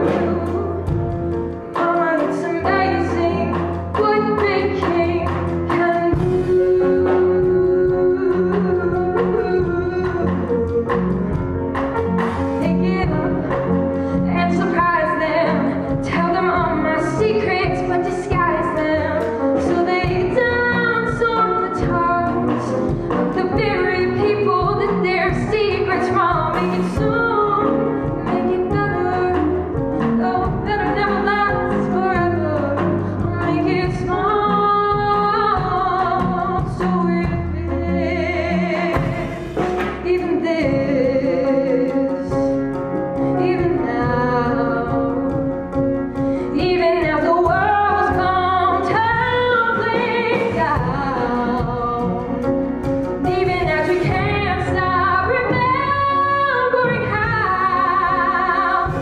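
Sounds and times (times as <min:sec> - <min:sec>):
woman singing a ballad: 0:00.0 - 0:11.0, 0:12.6 - 0:45.6, 0:46.2 - 0:52.6, 0:53.2 - 0:59.0
instrumental accompaniment: 0:00.0 - 0:59.0.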